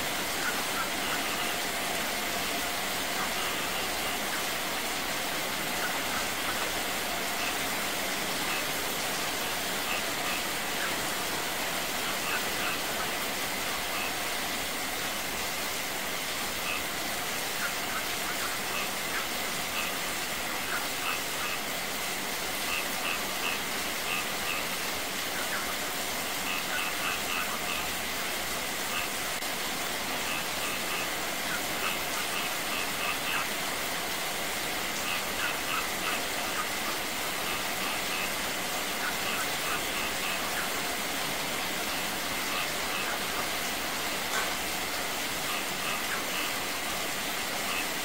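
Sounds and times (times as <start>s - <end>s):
runoff water pouring: 0.0s - 48.0s
steady rain falling: 0.0s - 48.0s
waterfall splashing over rocks: 0.0s - 48.0s.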